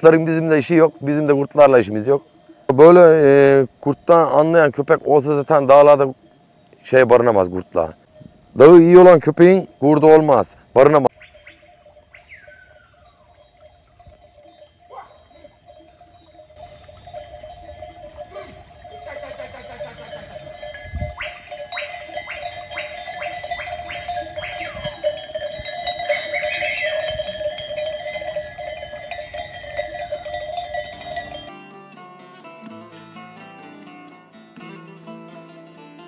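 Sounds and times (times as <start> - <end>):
sheep bells clanking: 0.0 - 31.6.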